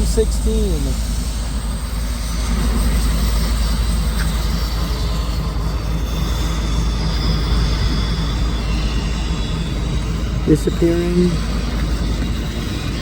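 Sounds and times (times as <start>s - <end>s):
freight train rumbling past: 0.0s - 13.0s
wheel squeal: 0.0s - 13.0s.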